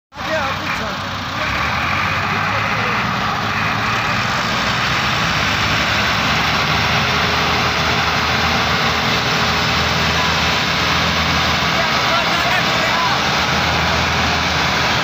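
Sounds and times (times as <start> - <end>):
tractor diesel engines straining: 0.1 - 15.0.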